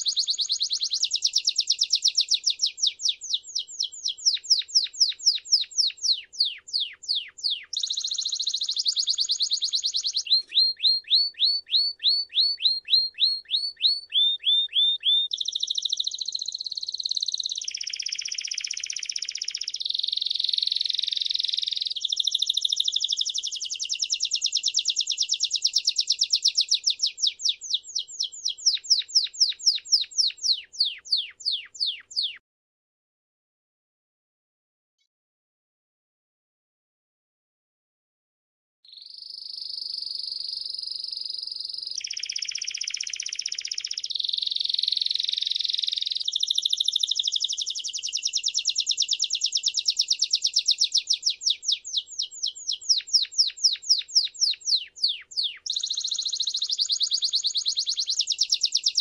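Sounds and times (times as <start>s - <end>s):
canary singing: 0.0s - 32.4s, 38.9s - 59.0s.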